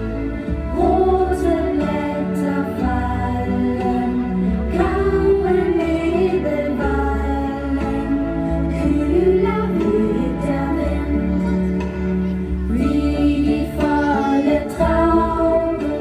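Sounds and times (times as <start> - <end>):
song with singing and heavy bass: 0.0 - 16.0.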